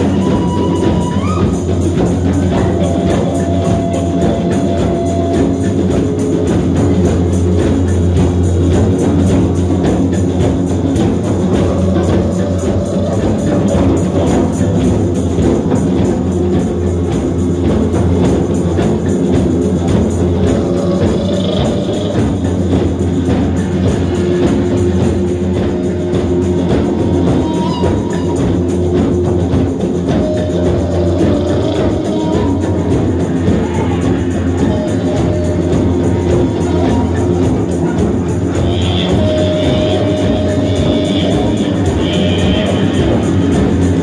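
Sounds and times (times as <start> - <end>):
didgeridoo drone: 0.0 - 44.0
hand drums playing fast beat: 0.0 - 44.0.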